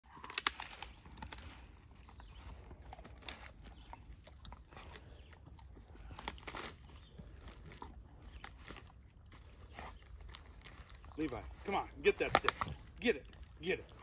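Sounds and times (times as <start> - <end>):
wood cracking and snapping: 0.0 - 11.3, 12.2 - 13.5
rustling in dry leaves: 0.0 - 13.0.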